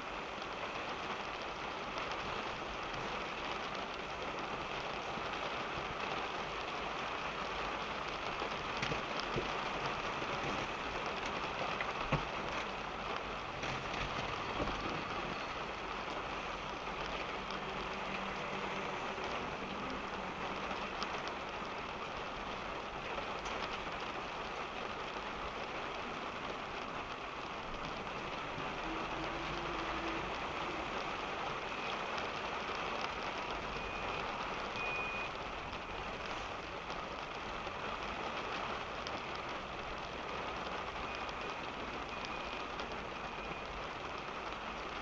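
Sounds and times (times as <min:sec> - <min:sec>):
rain on car roof: 0:00.0 - 0:45.0
raindrops ticking: 0:00.0 - 0:45.0
low rumble of moving car: 0:00.1 - 0:45.0.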